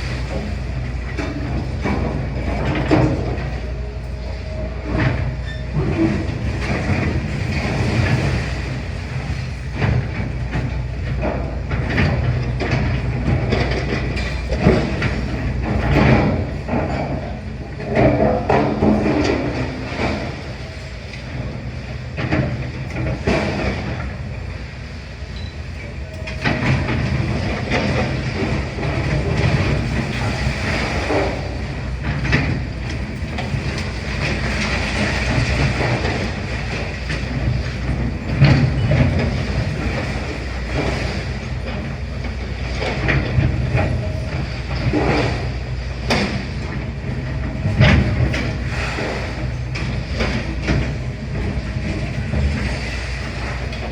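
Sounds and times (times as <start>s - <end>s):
metal and rubble clanking: 0.0s - 24.6s, 25.3s - 53.9s
excavator engine running: 0.0s - 53.9s.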